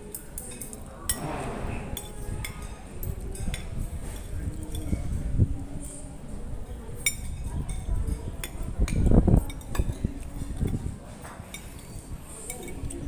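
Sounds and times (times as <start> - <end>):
cutlery clinking on plates: 0.0 - 5.2, 6.9 - 13.0.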